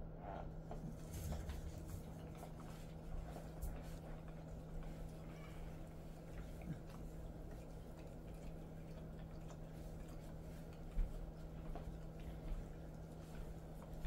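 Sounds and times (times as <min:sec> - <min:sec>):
steady low hum: 0:00.0 - 0:14.0
dog licking fur: 0:00.7 - 0:14.0.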